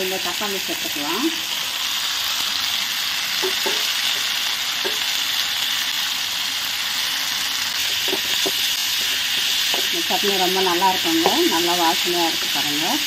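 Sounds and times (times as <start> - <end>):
oil sizzling in metal pan: 0.0 - 13.0.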